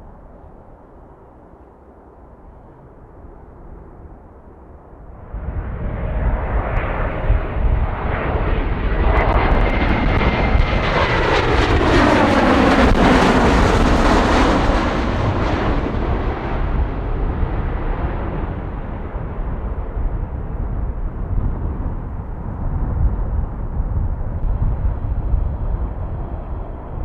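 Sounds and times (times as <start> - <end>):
jet airliner passing: 0.0 - 27.0.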